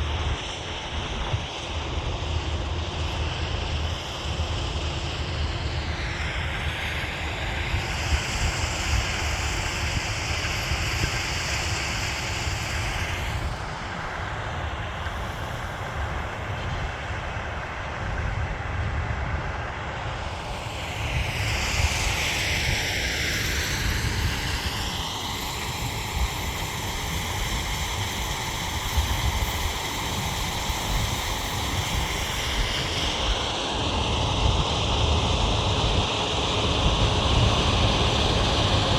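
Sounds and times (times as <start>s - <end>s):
high whine: 0.0s - 38.9s
wind buffeting microphone: 0.0s - 38.9s.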